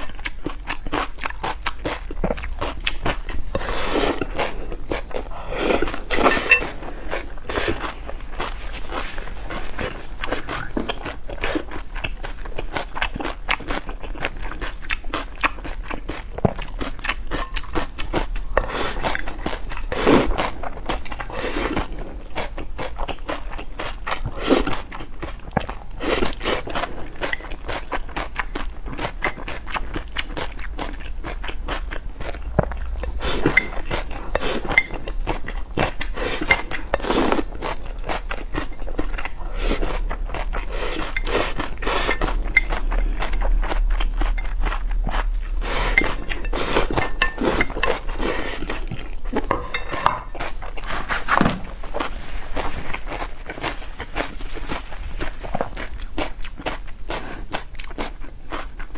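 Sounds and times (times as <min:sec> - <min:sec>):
person chewing noodles: 0:00.0 - 0:58.9.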